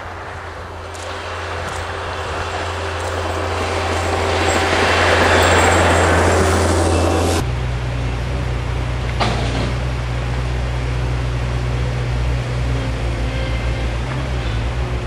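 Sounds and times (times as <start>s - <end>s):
compact loader engine running: 0.0s - 15.0s.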